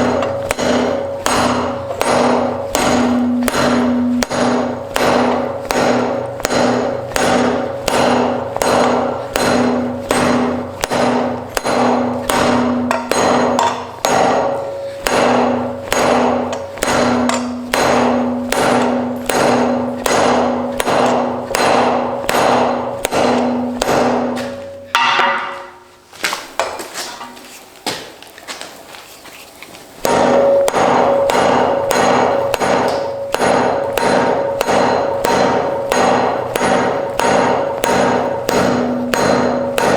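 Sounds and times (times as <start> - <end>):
hammer on iron against anvil: 0.0 - 25.9, 30.0 - 39.9.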